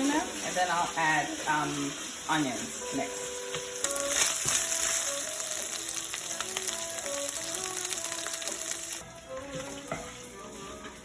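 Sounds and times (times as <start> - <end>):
chicken sizzling in a frying pan: 0.0 - 9.0
background music with melody: 0.0 - 11.0.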